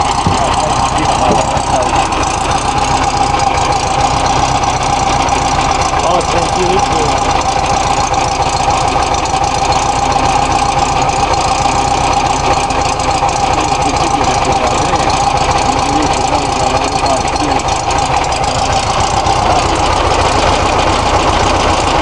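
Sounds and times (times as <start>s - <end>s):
air-cooled engine idling: 0.0s - 22.0s.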